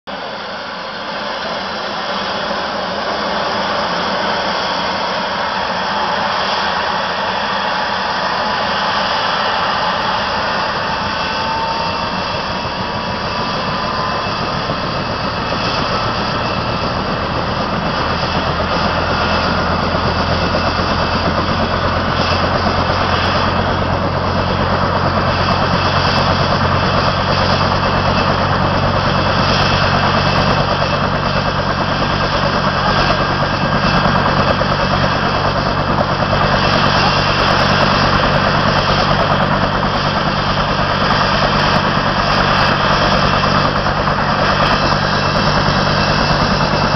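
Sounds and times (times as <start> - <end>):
helicopter turbine and rotor drone: 0.1 - 46.9.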